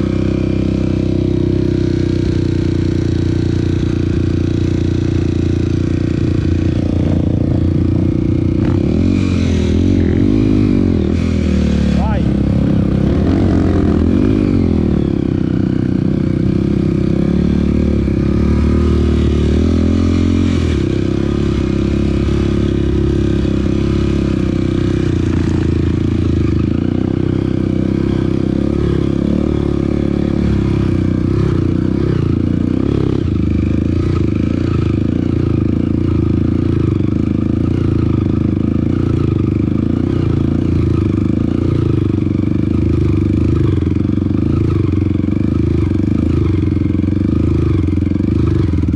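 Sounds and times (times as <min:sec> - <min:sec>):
off-road vehicle engine running: 0:00.0 - 0:48.9.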